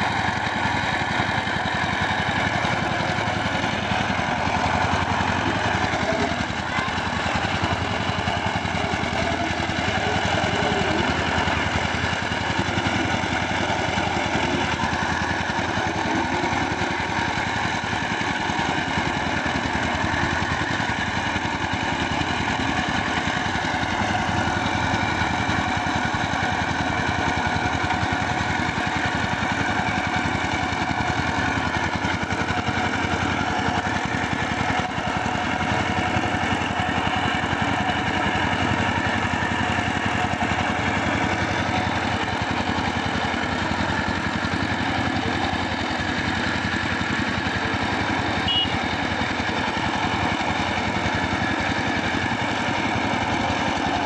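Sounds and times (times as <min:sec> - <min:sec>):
diesel tiller engine running: 0:00.0 - 0:54.0.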